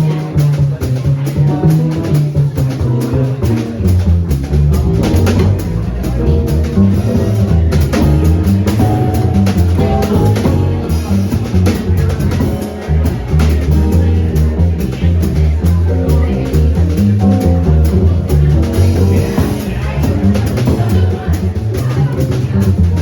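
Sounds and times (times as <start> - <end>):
bass line: 0.0 - 23.0
drum kit cymbal and snare: 0.0 - 23.0
jazz quartet playing: 0.0 - 23.0.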